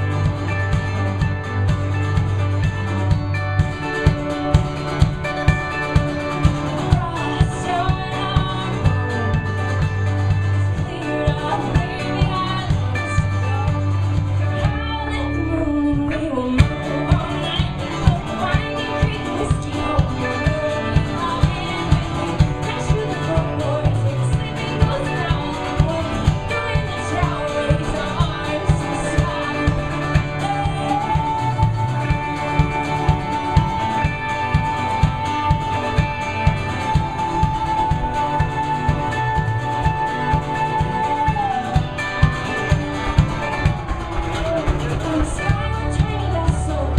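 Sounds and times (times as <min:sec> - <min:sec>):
thumping beat: 0:00.0 - 0:14.9, 0:16.0 - 0:46.9
acoustic guitar: 0:00.0 - 0:46.9
electric guitar: 0:00.0 - 0:46.9
mandolin-like string instrument: 0:00.0 - 0:46.9
woman singing: 0:00.0 - 0:46.9.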